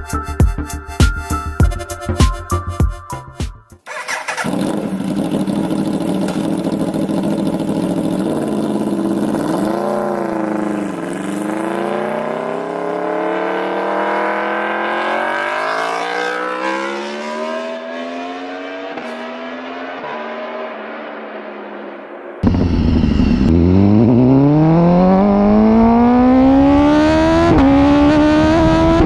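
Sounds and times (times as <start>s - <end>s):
motorcycle engine revving: 3.9s - 29.0s.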